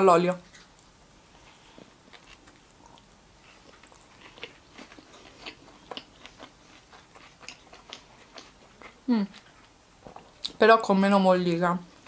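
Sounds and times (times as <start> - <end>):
person chewing bread: 0.4 - 10.5.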